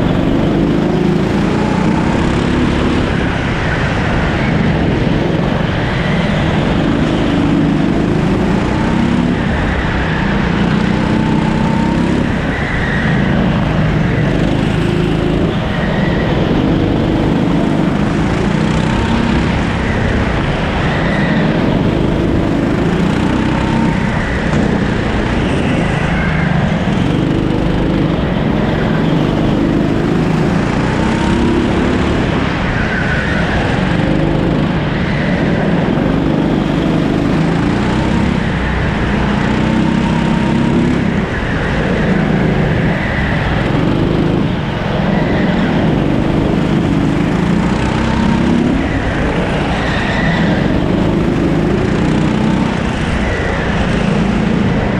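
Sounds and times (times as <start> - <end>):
kart engine revving: 0.0 - 54.9.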